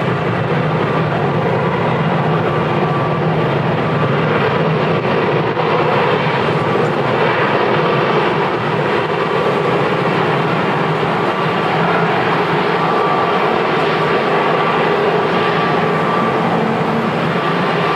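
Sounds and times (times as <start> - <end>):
faint steady whine: 0.0 - 17.9
jet engines roaring: 0.0 - 17.9.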